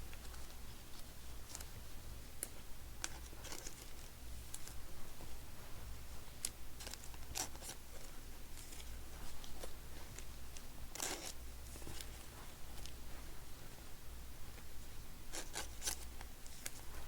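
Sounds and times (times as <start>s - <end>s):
card sleeves rustling and crinkling: 0.0s - 13.9s, 15.3s - 17.0s
steady low hum: 0.0s - 17.0s.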